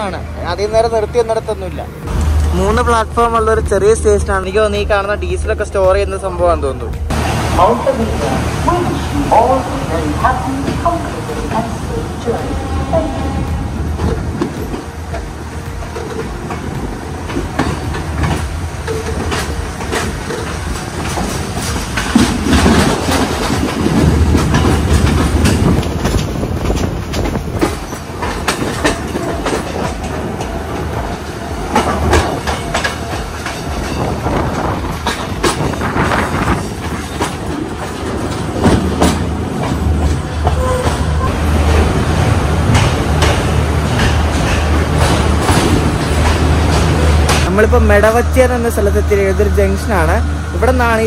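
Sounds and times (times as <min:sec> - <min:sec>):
train running gear rumble: 0:00.0 - 0:51.0
wheels clacking over rail joints: 0:00.0 - 0:51.0.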